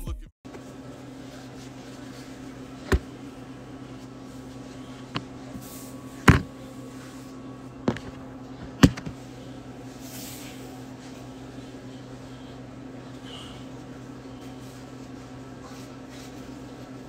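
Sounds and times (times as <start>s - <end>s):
low electrical hum: 0.5s - 17.0s.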